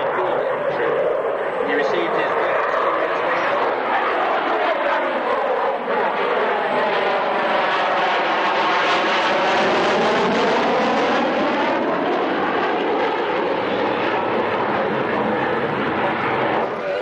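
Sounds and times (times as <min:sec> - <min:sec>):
aircraft engine roar: 0:00.0 - 0:17.0.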